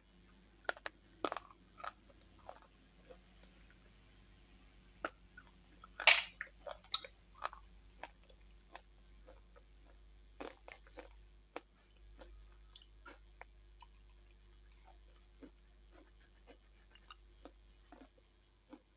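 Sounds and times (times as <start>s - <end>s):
chewing brittle crunches: 0.3s - 3.7s, 5.0s - 18.9s.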